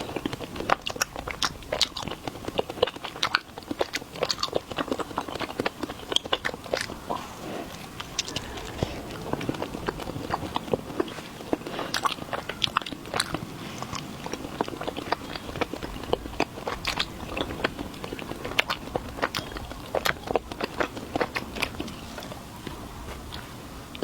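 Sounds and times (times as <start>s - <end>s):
chewing with crunches: 0.0s - 24.0s
mouth clicks: 3.0s - 22.8s.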